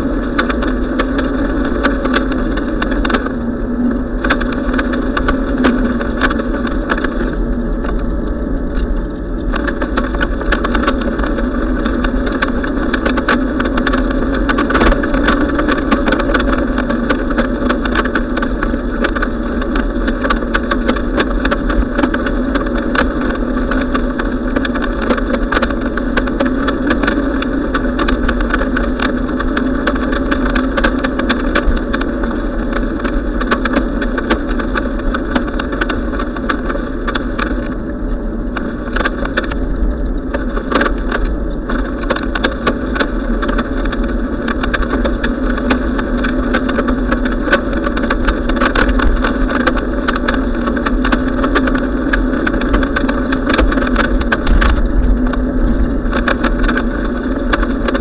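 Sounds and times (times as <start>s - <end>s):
bicycle rolling on pavement: 0.0s - 58.0s
bike clicks and rattles: 0.0s - 58.0s.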